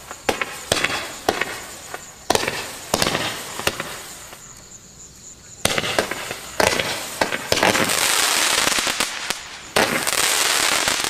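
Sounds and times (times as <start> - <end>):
sharp firework reports: 0.0 - 4.4, 5.6 - 11.0
hissing crackle of bursting stars: 0.0 - 11.0.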